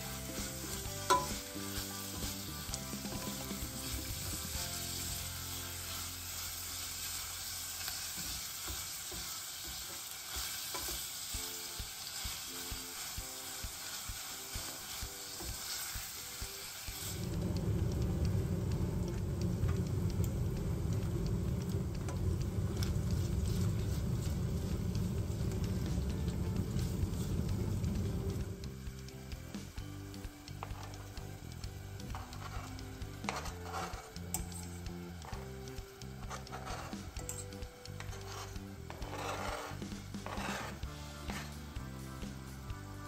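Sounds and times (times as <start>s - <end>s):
stirring in a pan: 0.0s - 17.6s, 18.2s - 29.8s, 30.5s - 41.8s
food sizzling in a pan: 0.0s - 43.0s.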